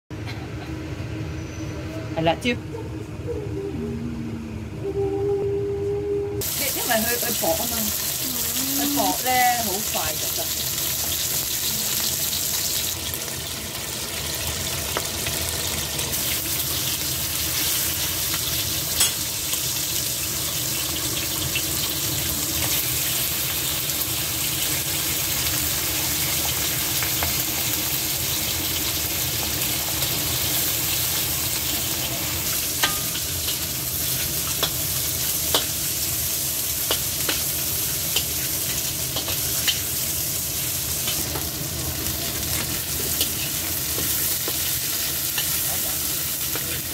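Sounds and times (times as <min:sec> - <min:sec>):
meat sizzling in hot oil: 0:06.4 - 0:46.9.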